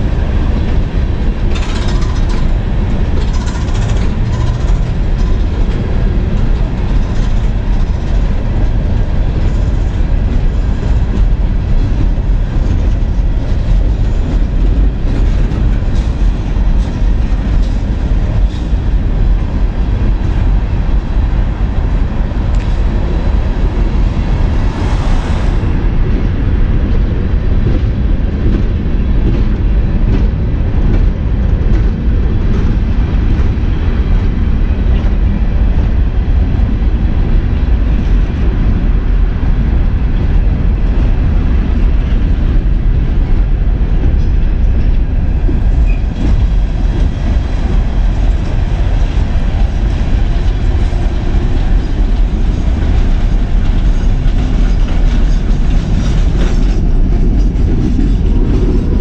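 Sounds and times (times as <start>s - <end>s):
freight train rumbling past: 0.0s - 59.0s
rush of noise: 0.0s - 59.0s
wheels clicking on rails: 0.0s - 59.0s.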